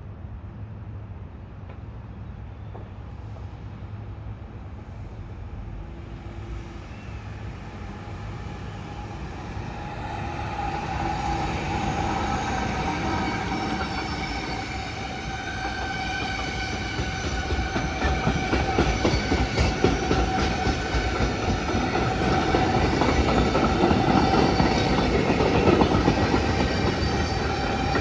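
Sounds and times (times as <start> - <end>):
electric train rumble: 2.7 - 28.0.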